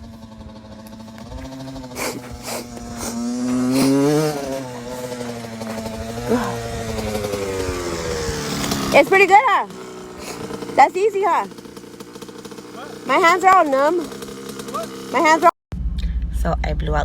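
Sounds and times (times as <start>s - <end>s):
dirt bike engine revving: 0.0s - 16.7s.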